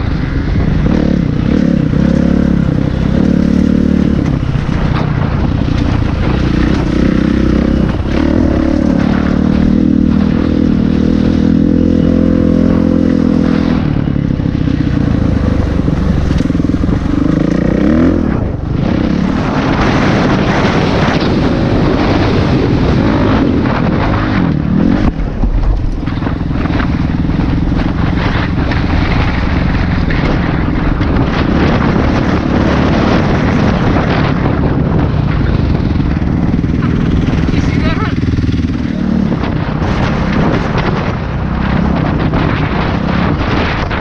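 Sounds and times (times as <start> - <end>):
dirt bike engine revving: 0.0 - 44.0
wind noise on microphone: 0.0 - 44.0.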